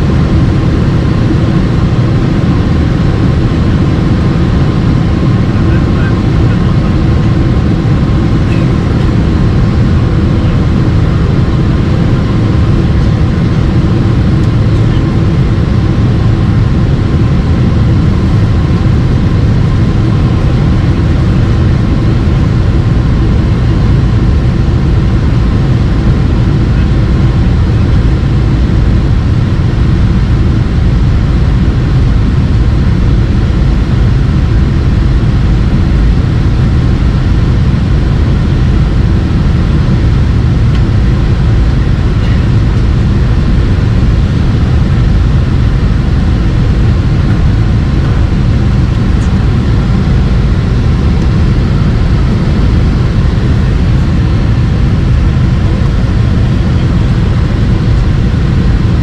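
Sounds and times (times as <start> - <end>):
vehicle low drone: 0.0 - 59.0.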